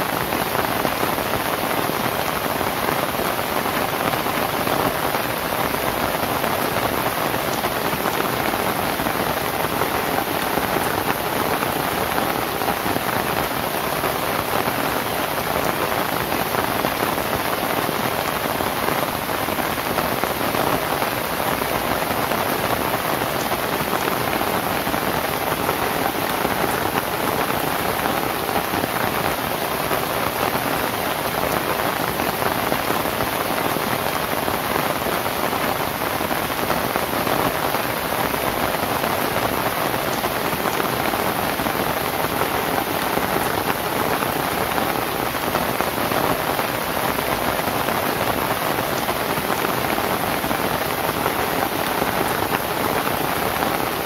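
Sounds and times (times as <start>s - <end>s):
rain on thatched roof: 0.0s - 54.0s.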